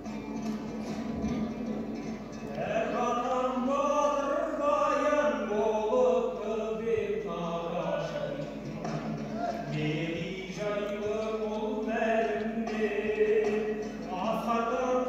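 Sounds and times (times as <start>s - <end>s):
music: 0.0s - 15.0s
person singing: 2.4s - 15.0s.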